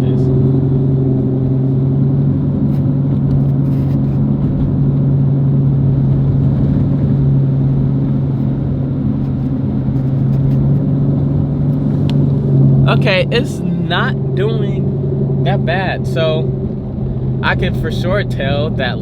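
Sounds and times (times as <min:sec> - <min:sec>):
car engine low drone: 0:00.0 - 0:19.0
road noise: 0:00.0 - 0:19.0.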